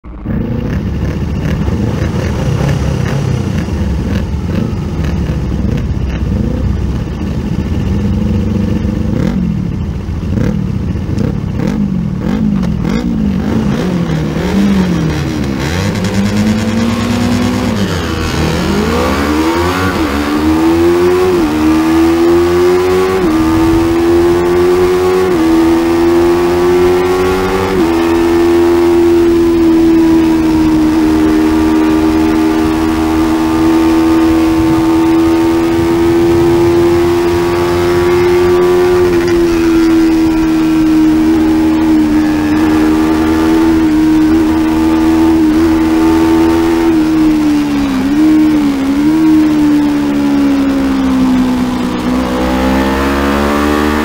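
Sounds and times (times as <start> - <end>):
motorcycle engine revving and accelerating: 0.0 - 54.0.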